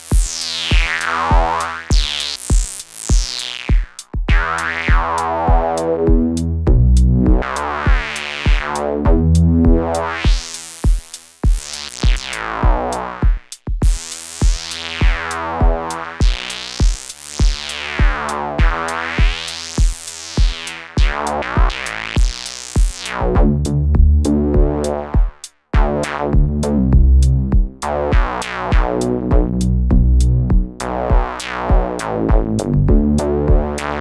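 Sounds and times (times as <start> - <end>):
kick drum beat: 0.0 - 33.9
gritty analog synthesizer sequence: 0.0 - 34.0.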